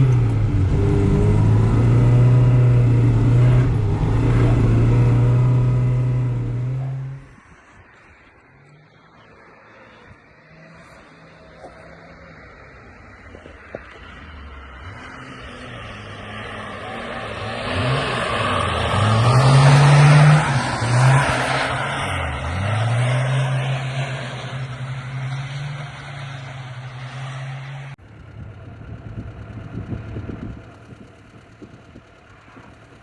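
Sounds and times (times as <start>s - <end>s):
car engine revving: 0.0s - 33.0s
tyres rushing on snow: 0.0s - 33.0s.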